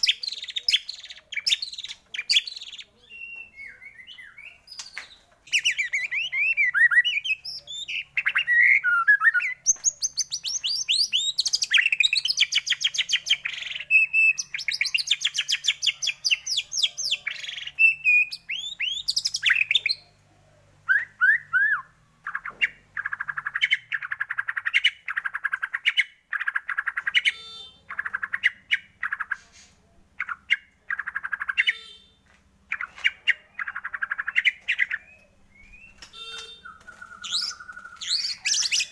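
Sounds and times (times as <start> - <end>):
songbird singing trills: 0.0 - 29.5, 30.2 - 38.9.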